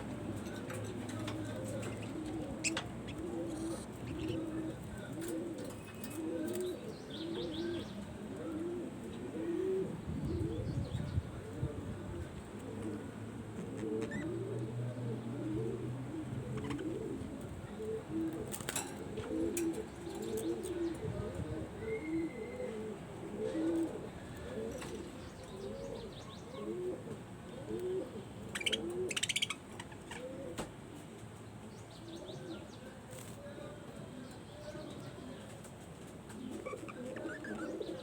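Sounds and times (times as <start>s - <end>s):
pigeons cooing: 0.0s - 31.5s, 32.1s - 38.0s.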